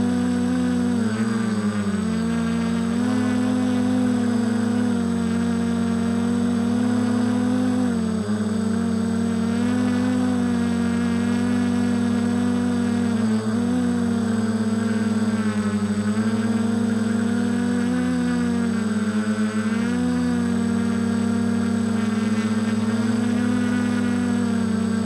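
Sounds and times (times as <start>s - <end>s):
drone propellers humming: 0.0s - 25.0s.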